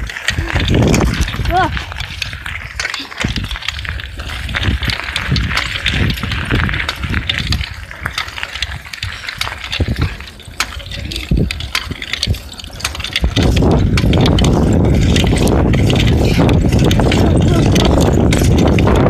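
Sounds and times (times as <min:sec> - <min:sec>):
bike rattles and clicks: 0:00.0 - 0:19.0
wind and road noise rumble: 0:00.0 - 0:19.0.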